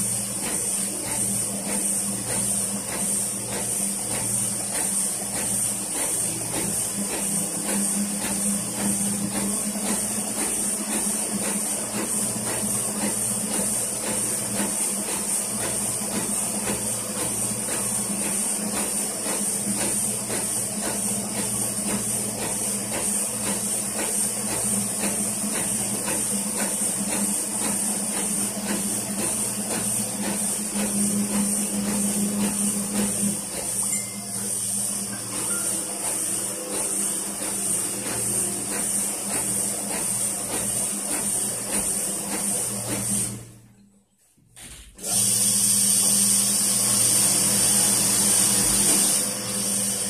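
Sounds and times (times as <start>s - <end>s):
printing press hum and hiss: 0.0s - 50.0s.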